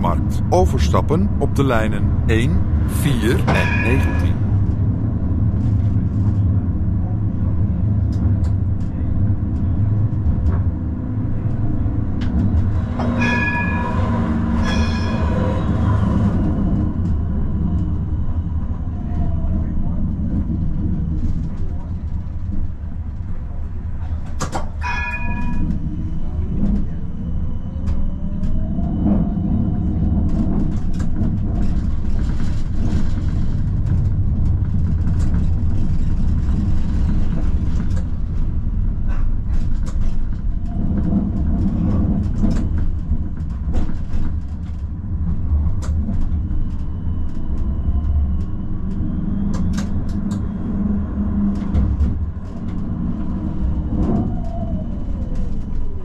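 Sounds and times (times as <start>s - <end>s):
tram rumbling on rails: 0.0s - 56.0s.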